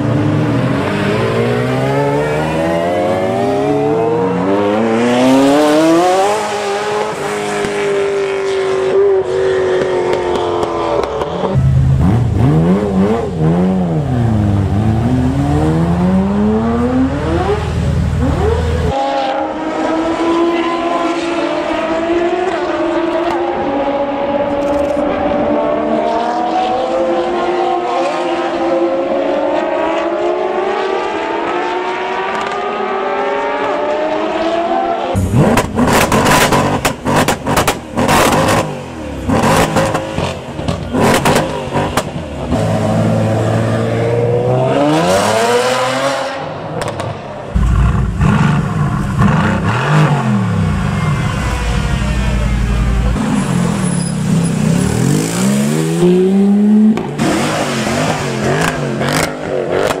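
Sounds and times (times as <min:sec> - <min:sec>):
engines revving hard: 0:00.0 - 0:51.0, 0:52.4 - 1:00.0
sports cars accelerating: 0:00.0 - 1:00.0.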